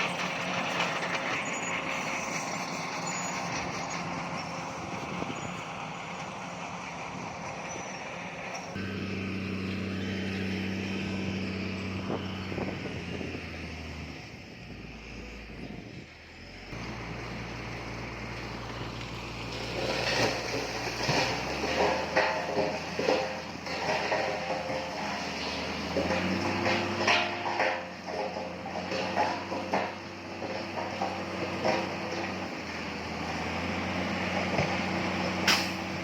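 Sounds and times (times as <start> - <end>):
diesel machinery engine running: 0.0 - 36.0.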